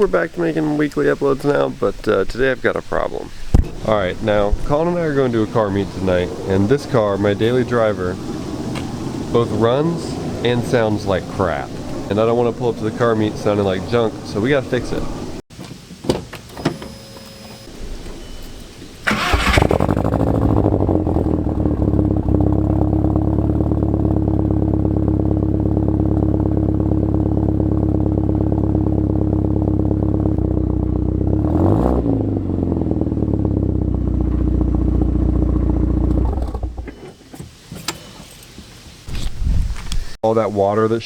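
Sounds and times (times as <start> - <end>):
car engine cranking and idling: 0.0 - 15.6, 16.4 - 38.0.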